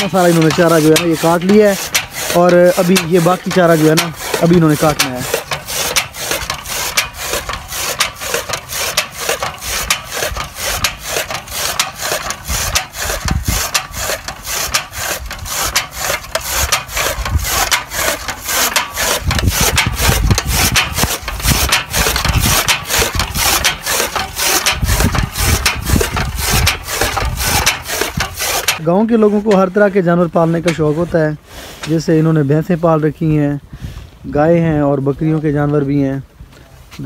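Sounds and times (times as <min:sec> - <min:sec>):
chaff cutter chopping fodder: 0:00.0 - 0:31.2.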